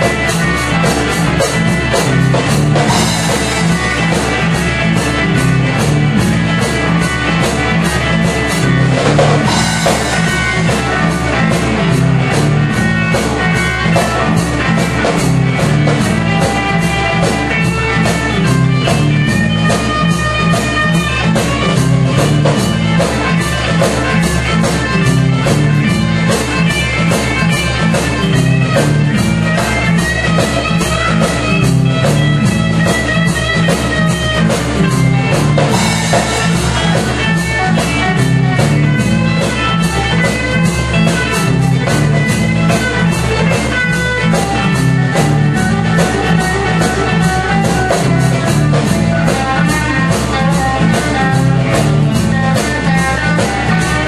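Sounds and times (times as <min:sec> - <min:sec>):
fast drum beat: 0:00.0 - 0:54.0
lead guitar notes: 0:00.0 - 0:54.0
low guitar riff: 0:00.0 - 0:54.0.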